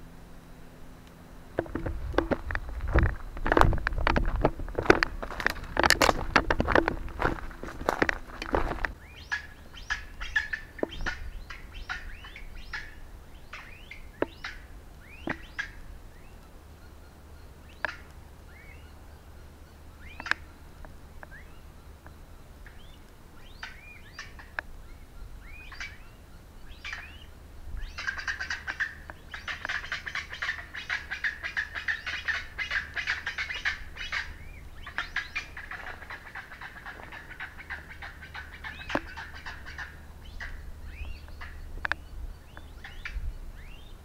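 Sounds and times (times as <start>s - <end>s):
birds calling raucously: 0.0s - 44.0s.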